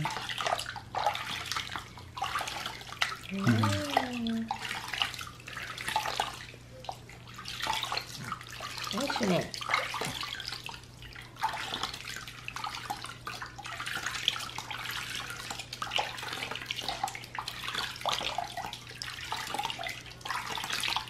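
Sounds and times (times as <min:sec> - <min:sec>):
water dripping into basin: 0:00.0 - 0:21.0
water splashing in basin: 0:00.0 - 0:21.0.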